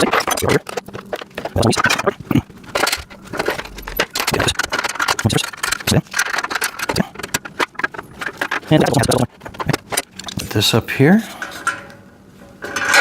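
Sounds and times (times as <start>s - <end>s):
metal parts clinking and rattling: 0.0s - 10.5s, 12.6s - 13.0s.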